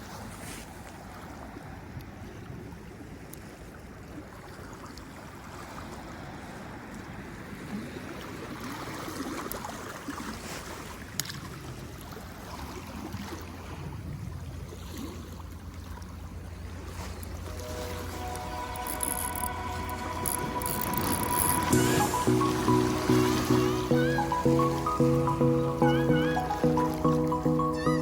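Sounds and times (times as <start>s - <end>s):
sea water lapping: 0.0s - 28.0s.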